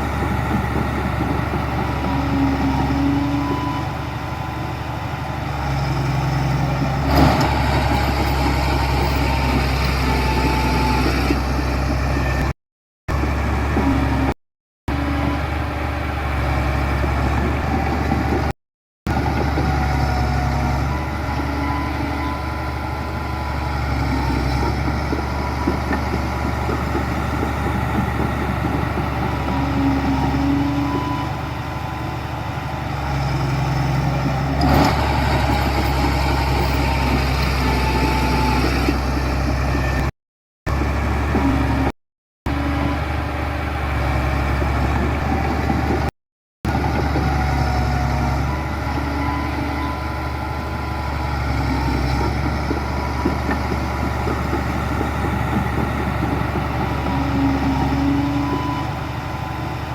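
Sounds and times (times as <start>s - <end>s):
heavy machinery diesel engines: 0.0s - 40.1s, 40.7s - 41.9s, 42.5s - 46.1s, 46.7s - 59.9s.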